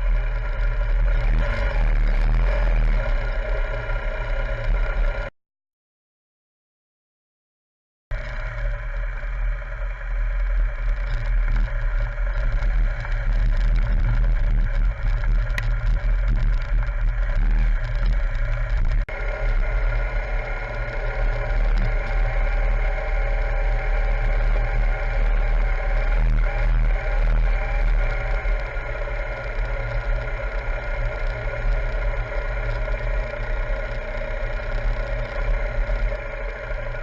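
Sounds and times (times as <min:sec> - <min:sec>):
motorcycle engine running: 0:00.0 - 0:05.3, 0:08.1 - 0:37.0
road and wind noise: 0:00.0 - 0:05.3, 0:08.2 - 0:37.0.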